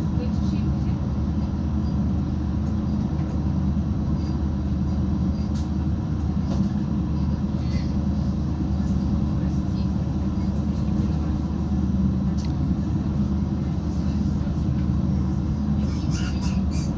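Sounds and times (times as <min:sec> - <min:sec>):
diesel train rumbling inside carriage: 0:00.0 - 0:16.9.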